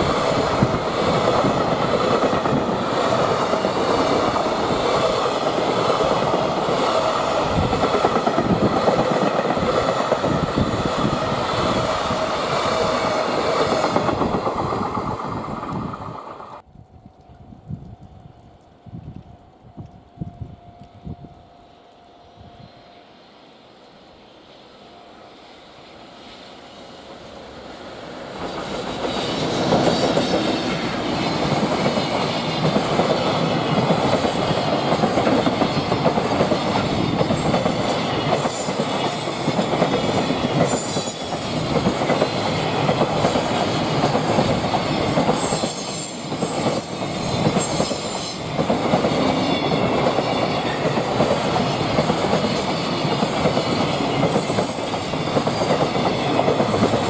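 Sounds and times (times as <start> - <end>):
freight train rumbling: 0.0 - 16.6, 23.9 - 57.0.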